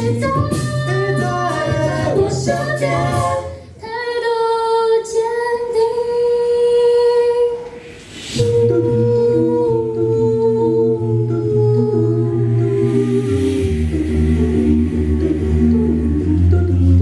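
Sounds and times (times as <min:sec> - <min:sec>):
a cappella choir singing: 0:00.0 - 0:17.0.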